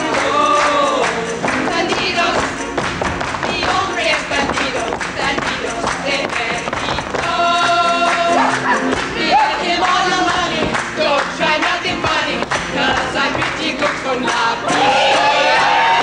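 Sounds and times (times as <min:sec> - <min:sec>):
ensemble of voices singing: 0:00.0 - 0:16.0
live stage music accompaniment: 0:00.0 - 0:16.0.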